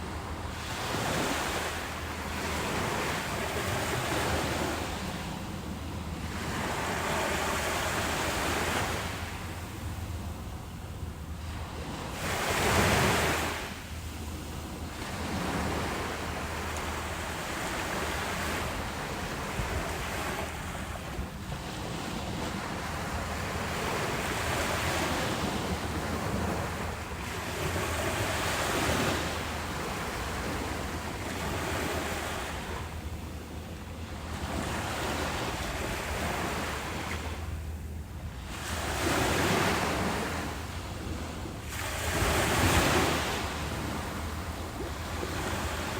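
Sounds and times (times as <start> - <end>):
ocean waves breaking on beach: 0.0 - 45.9.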